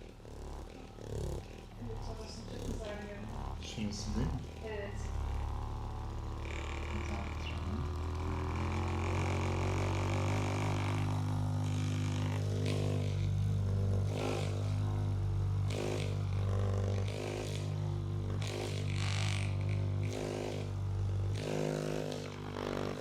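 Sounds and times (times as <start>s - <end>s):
bright rasp of massager on body: 0.0s - 23.0s
massage device motor hum: 0.0s - 23.0s.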